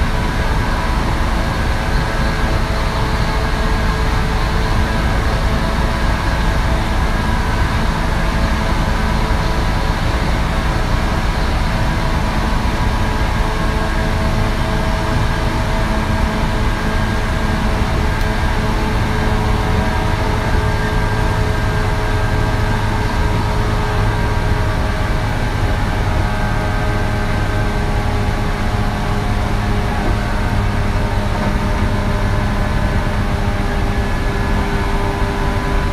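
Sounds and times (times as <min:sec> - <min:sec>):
traction motor whine: 0:00.0 - 0:35.9
wheels rumbling on rail: 0:00.0 - 0:35.9.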